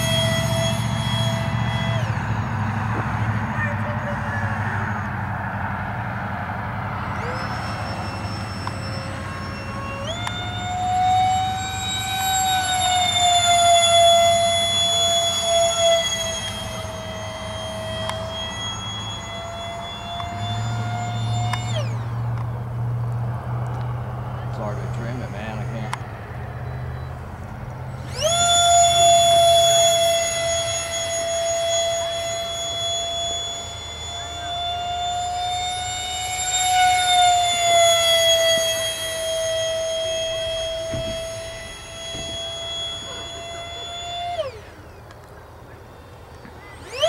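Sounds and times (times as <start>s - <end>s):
electric ducted fan whine: 0.0s - 47.0s
low hum: 0.0s - 47.0s.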